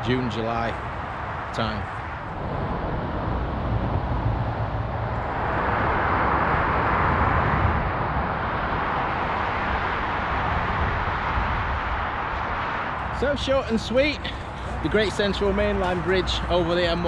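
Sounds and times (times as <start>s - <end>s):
motorway traffic rushing: 0.0s - 17.0s.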